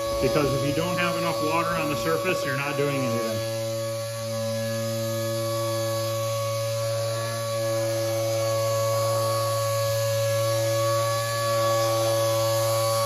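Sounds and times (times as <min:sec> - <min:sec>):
air sander whining: 0:00.0 - 0:13.0.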